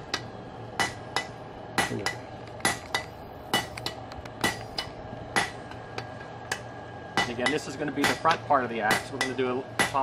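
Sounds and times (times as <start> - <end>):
hammer striking metal on anvil: 0.0 - 3.8, 4.4 - 10.0.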